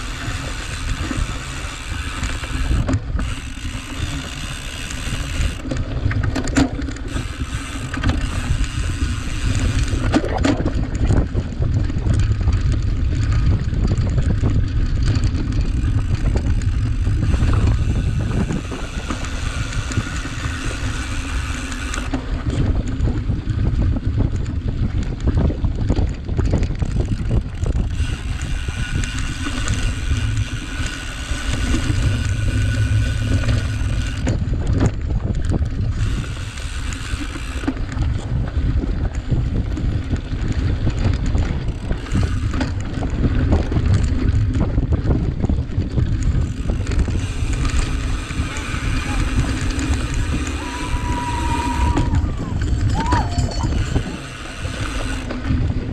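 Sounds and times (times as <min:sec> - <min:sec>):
bike rattling over rough ground: 0:00.0 - 0:55.9
wind buffeting microphone: 0:00.0 - 0:55.9.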